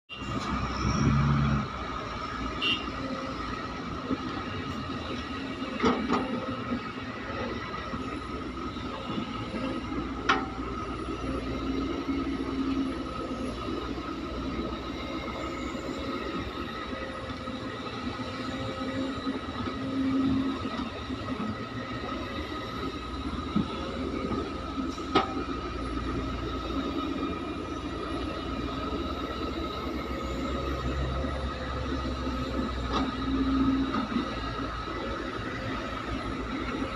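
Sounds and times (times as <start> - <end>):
excavator diesel engine running: 0.1 - 36.9.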